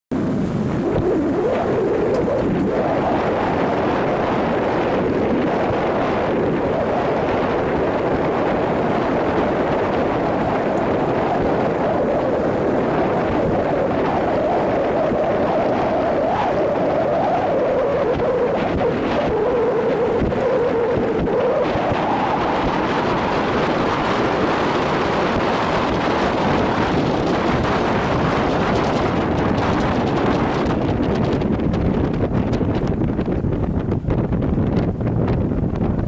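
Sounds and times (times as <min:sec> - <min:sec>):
boat running roar: 0:00.1 - 0:36.0
wavering low hum: 0:00.1 - 0:36.0
wind on microphone: 0:00.1 - 0:36.0.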